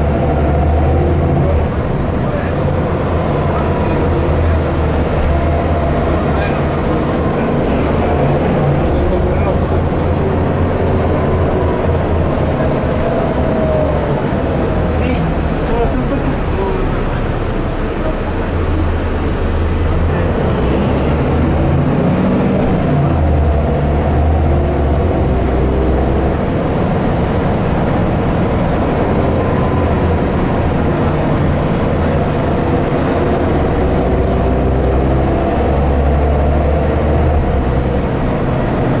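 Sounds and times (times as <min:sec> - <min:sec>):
bus diesel engine running: 0:00.0 - 0:39.0
road noise: 0:00.0 - 0:39.0.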